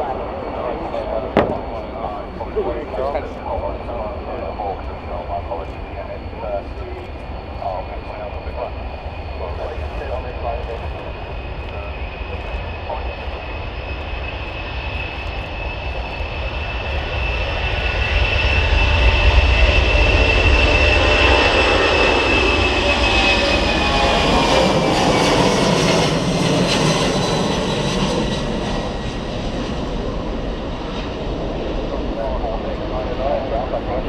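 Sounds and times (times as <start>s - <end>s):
high jet engine whine: 0.0s - 34.0s
jet aircraft passing by: 0.0s - 34.0s.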